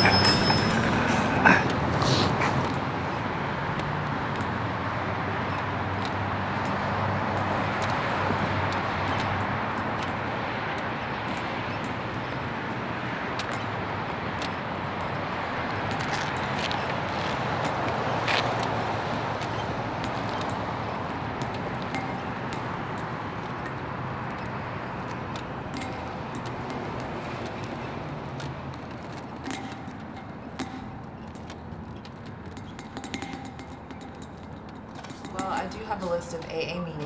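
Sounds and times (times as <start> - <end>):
distant city traffic: 0.0 - 37.0.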